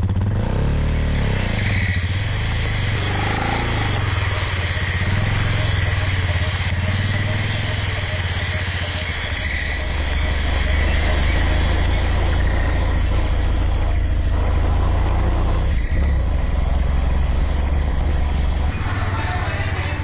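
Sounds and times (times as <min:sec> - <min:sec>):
motorcycle engine rumbling: 0:00.0 - 0:20.0.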